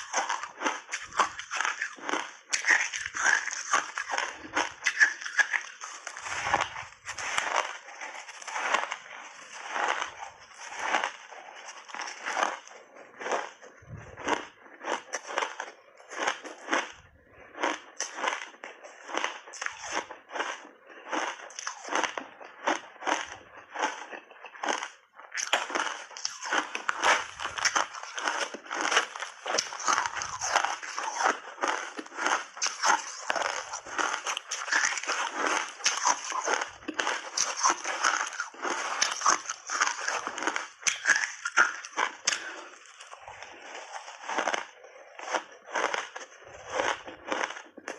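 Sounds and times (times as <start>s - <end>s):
chewing crunchy shaved ice: 0.0s - 47.9s.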